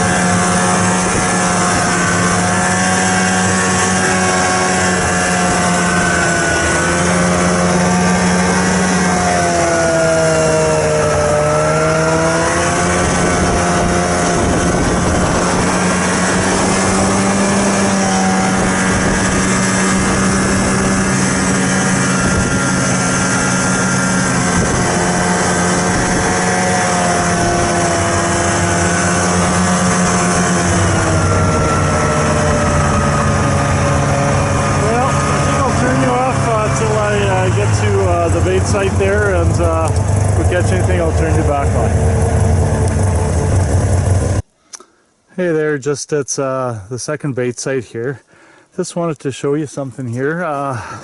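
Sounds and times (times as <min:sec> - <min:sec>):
road and wind noise: 0:00.0 - 0:44.5
vehicle engine driving: 0:00.0 - 0:44.5.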